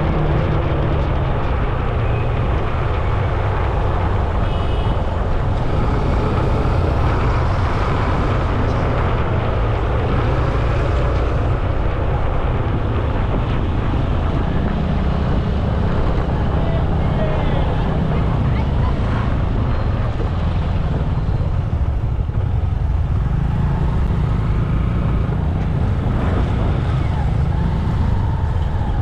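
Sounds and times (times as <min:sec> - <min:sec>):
road rumble: 0:00.0 - 0:29.0
wind buffeting microphone: 0:00.0 - 0:29.0.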